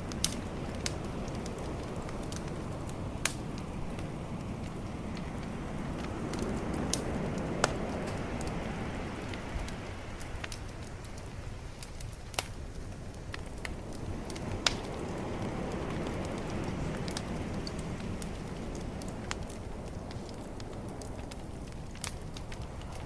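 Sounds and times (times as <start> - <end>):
calm ocean waves: 0.0 - 11.7, 13.9 - 21.0
bonfire crackling and popping: 0.0 - 23.0.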